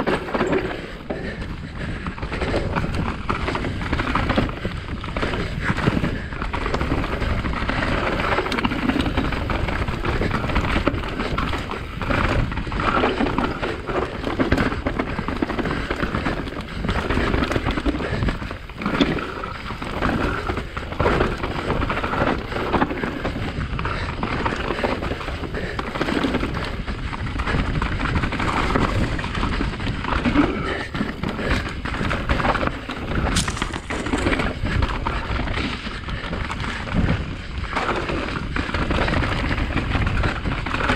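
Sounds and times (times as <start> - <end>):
bike knocks and rattles: 0.0 - 40.9
bike tyres rolling over dirt: 0.0 - 40.9
wind on microphone: 0.7 - 40.9.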